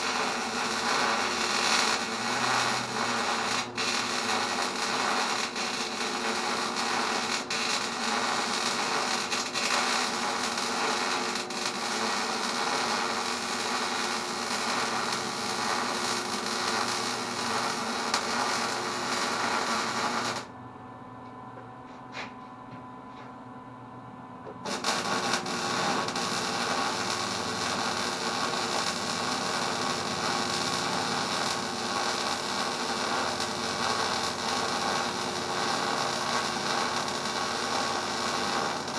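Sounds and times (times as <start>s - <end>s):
arc welding crackling: 0.0s - 20.5s, 24.6s - 38.9s
welding hum: 0.0s - 20.5s, 24.4s - 38.9s.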